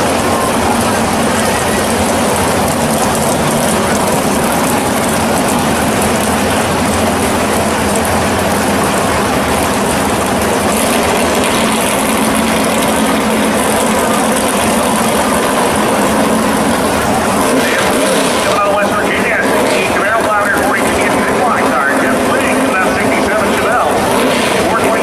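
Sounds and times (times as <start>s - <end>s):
car engines idling loudly: 0.0s - 25.0s.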